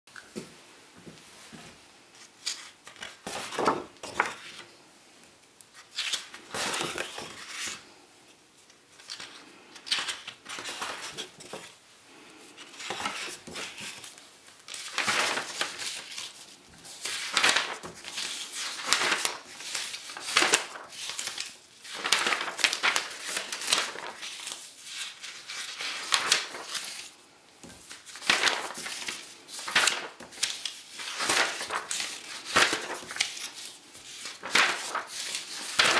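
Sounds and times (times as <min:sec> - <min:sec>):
paper sheets rustling: 0:01.5 - 0:04.8, 0:05.7 - 0:35.9.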